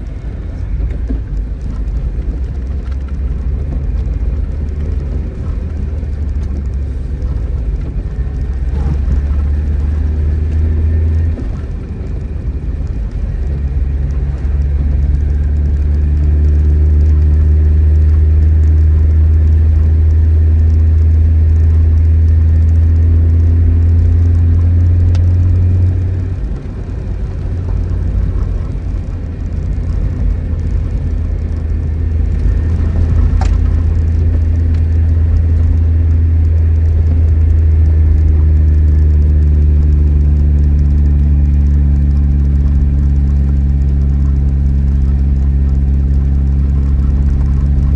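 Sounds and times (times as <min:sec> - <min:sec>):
engine running with deep hum: 0:00.0 - 0:47.9.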